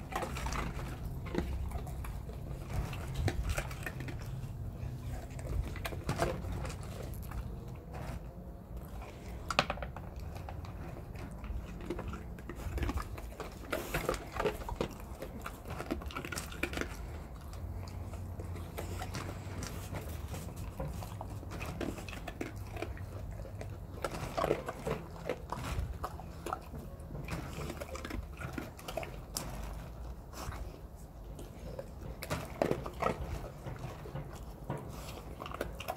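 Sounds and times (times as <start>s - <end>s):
dogs chewing treats: 0.0s - 35.9s.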